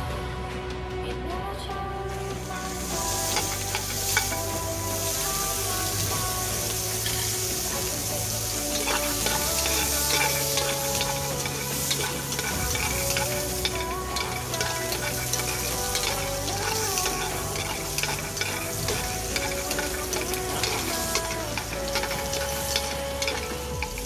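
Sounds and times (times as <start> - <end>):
aromatics sizzling in hot oil: 2.4 - 24.0
spatula stirring and scraping: 2.9 - 24.0.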